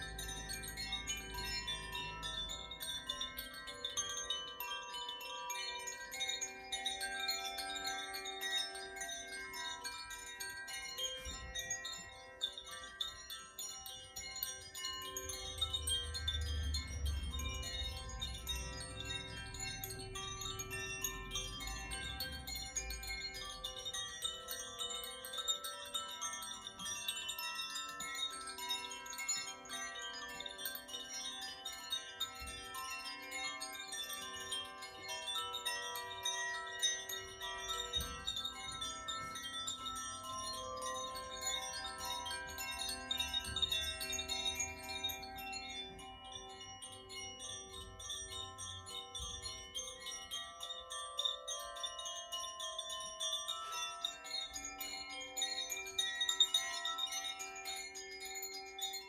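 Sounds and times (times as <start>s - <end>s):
wind chimes ringing: 0.0s - 59.0s.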